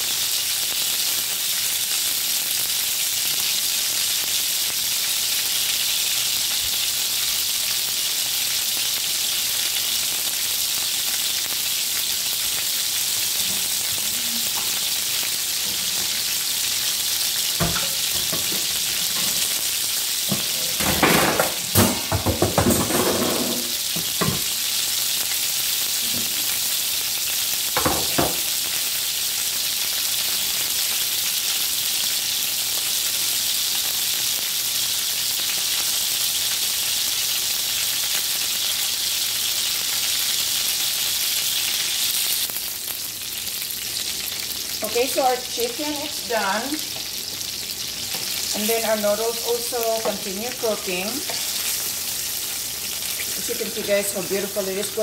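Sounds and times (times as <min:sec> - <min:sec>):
chicken sizzling in grill pan: 0:00.0 - 0:55.0.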